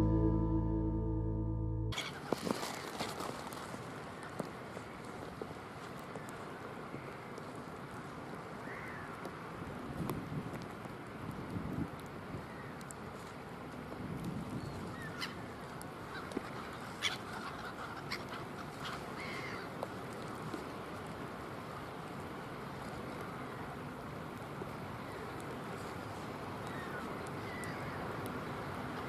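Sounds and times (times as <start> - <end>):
wind: 1.9 - 29.0
water: 2.0 - 29.0.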